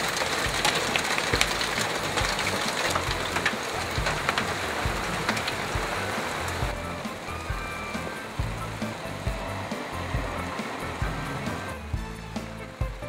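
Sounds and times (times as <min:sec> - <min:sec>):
dull low thumps: 0:00.0 - 0:13.0
heavy rain falling: 0:00.0 - 0:13.0
raindrops ticking on a surface: 0:00.0 - 0:13.0.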